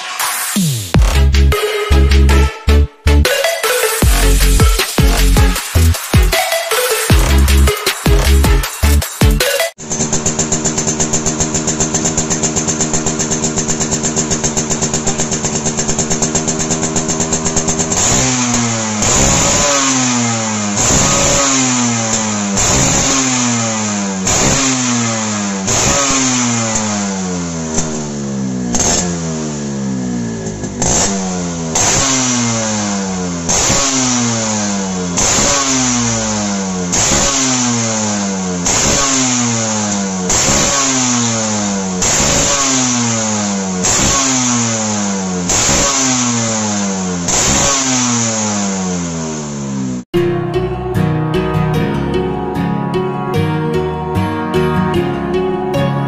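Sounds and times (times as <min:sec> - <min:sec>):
motorcycle engine revving: 0:03.2 - 0:52.7.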